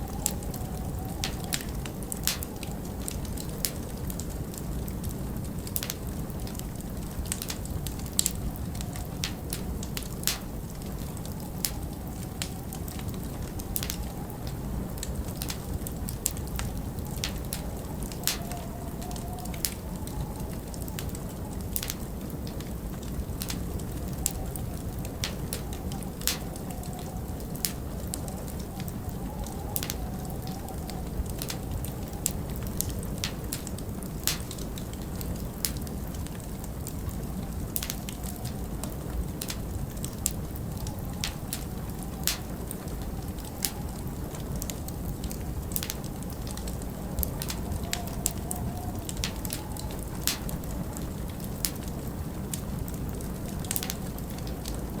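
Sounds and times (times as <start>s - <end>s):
sharp fire pops: 0.0s - 54.9s
log fire crackling: 0.0s - 55.0s
low rumble of wind: 0.0s - 55.0s.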